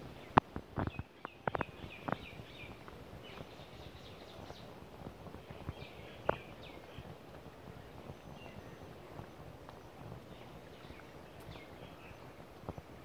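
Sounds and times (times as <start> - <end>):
small birds chirping: 0.0 - 13.0
footsteps on dirt path: 0.4 - 13.0.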